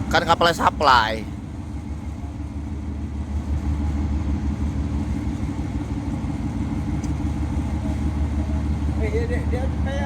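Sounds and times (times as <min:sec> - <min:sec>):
large engine rumbling: 0:00.0 - 0:10.0.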